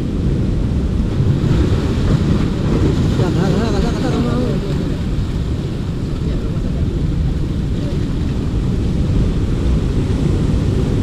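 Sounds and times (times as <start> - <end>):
ocean surf on rocks: 0.0 - 11.0
wind buffeting microphone: 0.0 - 11.0.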